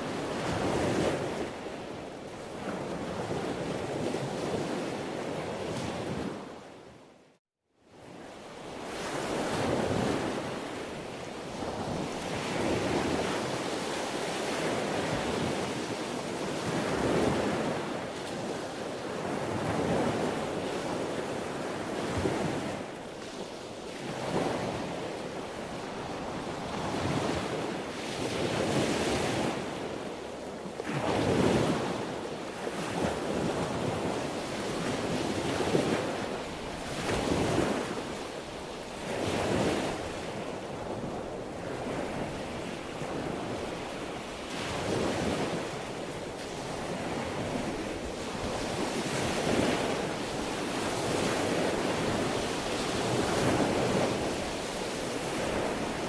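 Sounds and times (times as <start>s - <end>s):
sea waves breaking on shore: 0.0s - 7.0s, 7.9s - 56.0s
wind: 0.0s - 56.0s.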